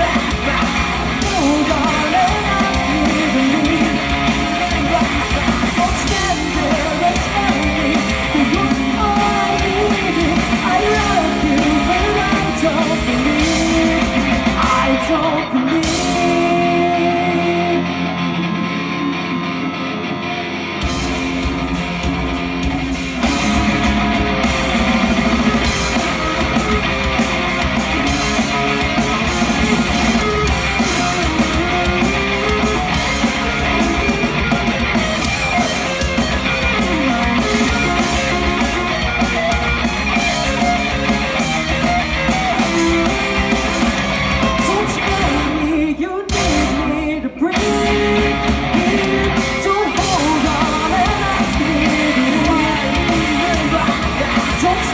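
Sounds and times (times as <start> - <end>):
rock band playing live: 0.0 - 54.9.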